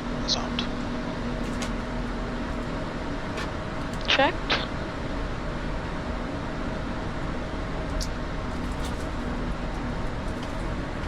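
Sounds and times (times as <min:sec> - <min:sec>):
aircraft cockpit engine rumble: 0:00.0 - 0:11.0.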